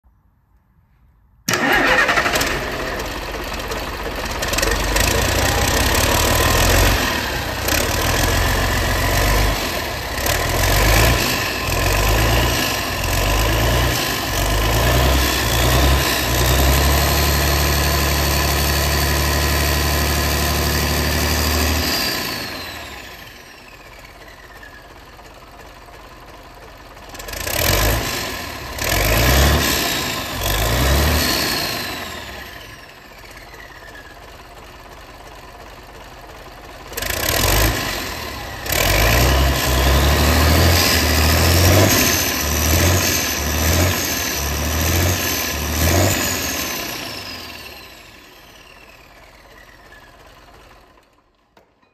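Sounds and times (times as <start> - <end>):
diesel engine revving: 1.5 - 24.8, 27.1 - 33.8, 36.8 - 50.5.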